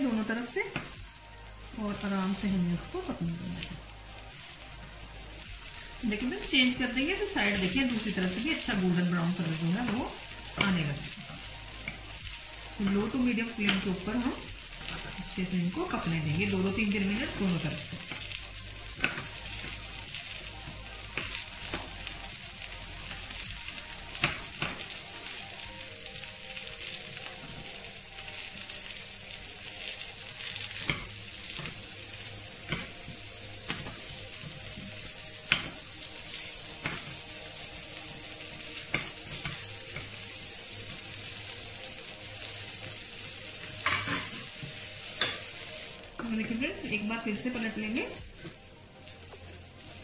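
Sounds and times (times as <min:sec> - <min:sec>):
food sizzling in oil: 0:00.0 - 0:50.0.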